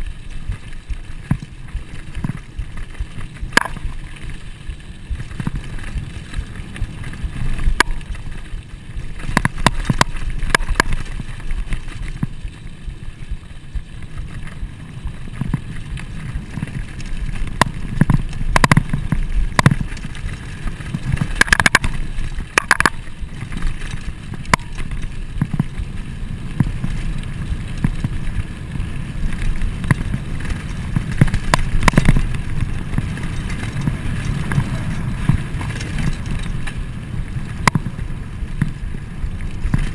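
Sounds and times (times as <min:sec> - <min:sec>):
bike clacking and rattling: 0:00.0 - 0:39.9
tyres rolling on dirt: 0:00.0 - 0:39.9
wind on microphone: 0:00.0 - 0:39.9.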